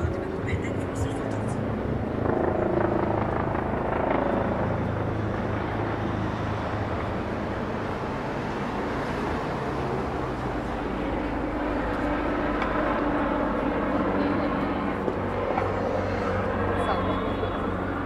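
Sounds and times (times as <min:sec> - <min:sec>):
road noise: 0:00.0 - 0:18.0
traffic engine hum: 0:00.0 - 0:18.0.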